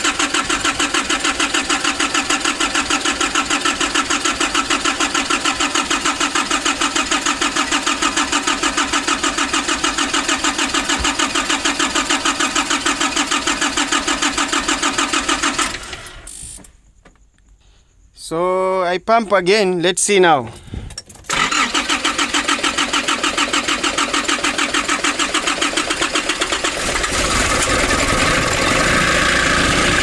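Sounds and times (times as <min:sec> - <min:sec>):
starter cranking diesel engine: 0:00.0 - 0:16.7, 0:21.2 - 0:30.0.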